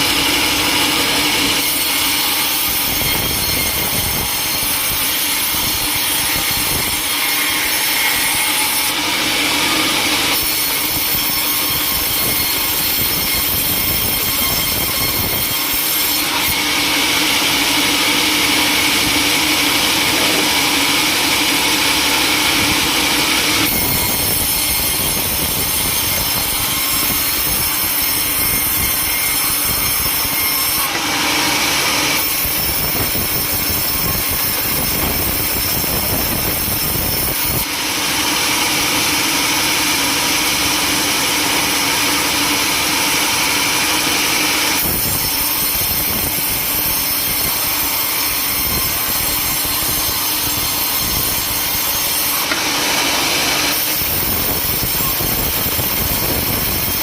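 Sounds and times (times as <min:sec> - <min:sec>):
sawmill saw cutting timber: 0:00.0 - 0:57.0.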